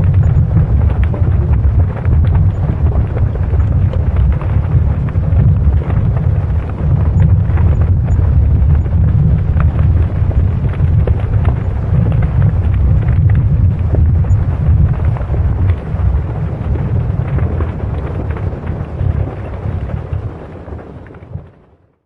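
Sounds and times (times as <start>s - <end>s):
cracks and rattles: 0.0s - 21.8s
deep rumble of moving ground: 0.0s - 21.9s.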